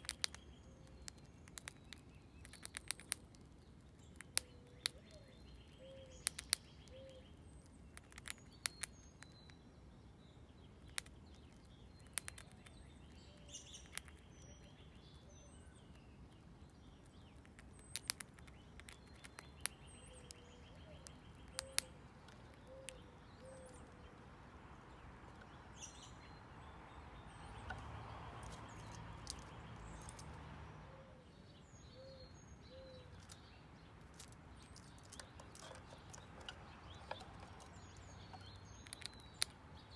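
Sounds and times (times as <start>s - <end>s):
squirrel crunching corn kernels: 0.0s - 9.8s, 10.4s - 26.1s, 27.2s - 30.5s, 32.6s - 39.9s
small birds chirping: 0.0s - 39.9s.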